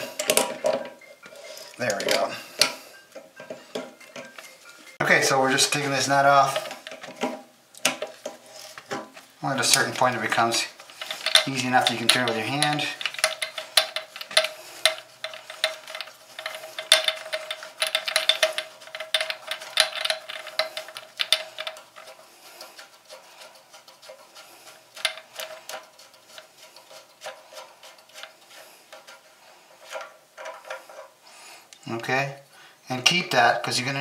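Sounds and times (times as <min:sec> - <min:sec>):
plastic threads clicking and rubbing: 0:00.0 - 0:32.1.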